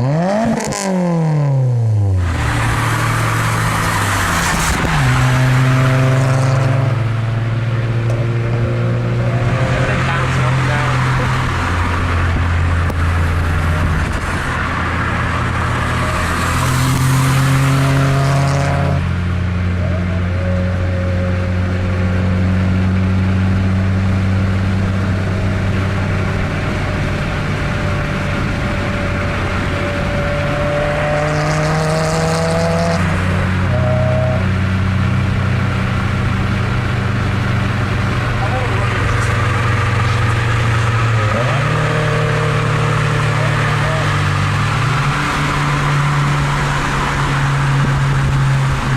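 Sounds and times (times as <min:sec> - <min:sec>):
car engine and exhaust running: 0:01.8 - 0:48.9.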